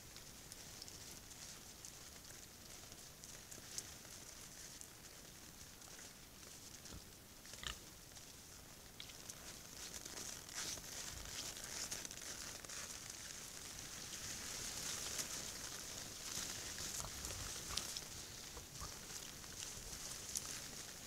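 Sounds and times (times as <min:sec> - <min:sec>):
boars crunching and rustling: 0:00.0 - 0:21.0.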